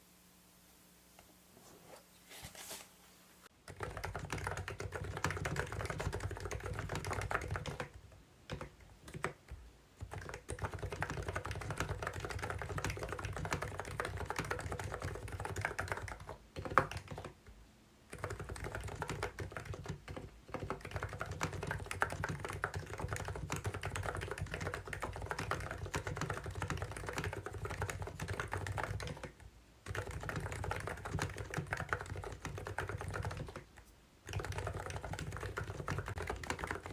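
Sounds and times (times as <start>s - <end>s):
fast typing on keyboard: 3.6s - 17.4s, 18.1s - 36.9s
sharp keyboard click: 3.7s - 9.4s, 10.0s - 17.3s, 18.1s - 36.9s.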